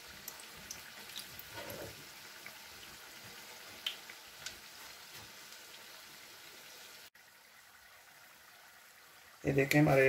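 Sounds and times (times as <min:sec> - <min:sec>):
oil sizzling: 0:00.0 - 0:10.0.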